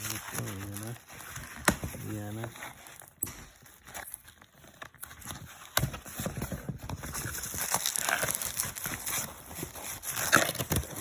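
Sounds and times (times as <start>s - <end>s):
taps and rustling of packaging: 0.0s - 11.0s.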